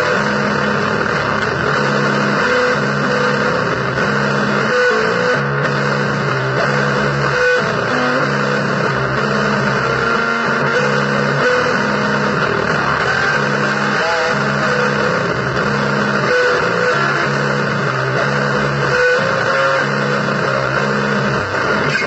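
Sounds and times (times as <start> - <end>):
blues guitar: 0.0 - 22.0.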